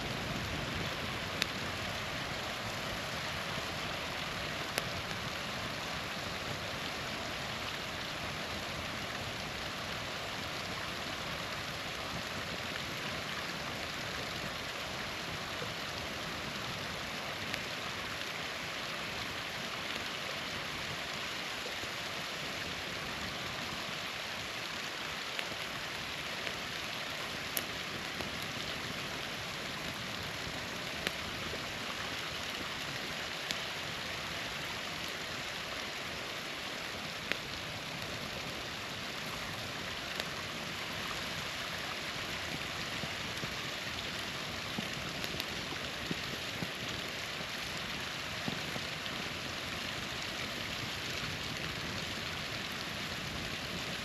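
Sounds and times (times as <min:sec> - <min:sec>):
campfire popping: 0:00.0 - 0:18.4, 0:22.5 - 0:54.0
small waterfall rushing: 0:00.0 - 0:54.0.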